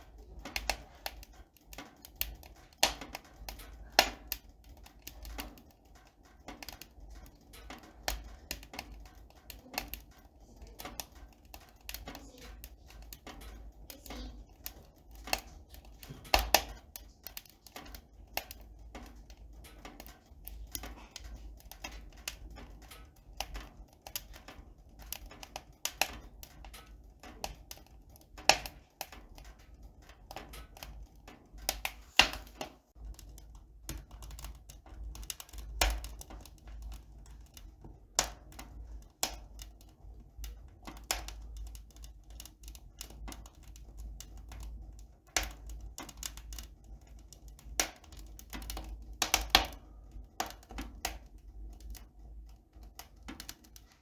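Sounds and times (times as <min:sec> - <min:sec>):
light clicks and taps: 0:00.0 - 0:54.0.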